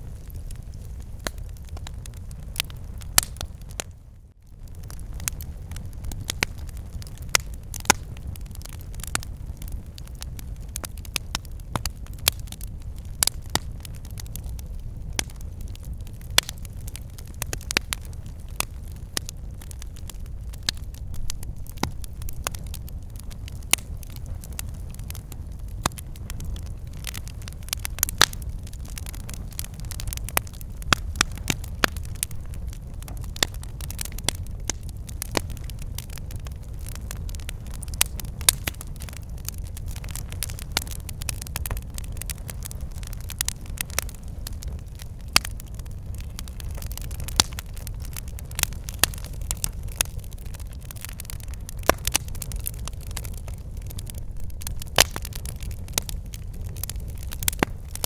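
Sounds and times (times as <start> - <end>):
burning wood crackling and popping: 0.0 - 58.0
low rumble of flames: 0.0 - 58.0.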